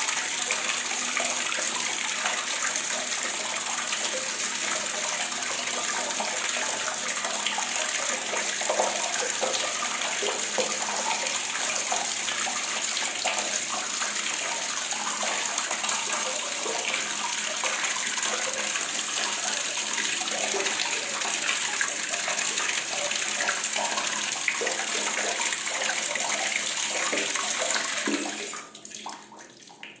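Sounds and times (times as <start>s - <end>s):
faucet water splashing into basin: 0.0s - 30.0s.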